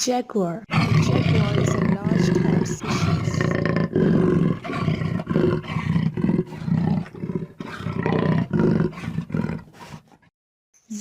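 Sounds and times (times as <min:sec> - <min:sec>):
jaguar roaring: 0:00.7 - 0:10.3.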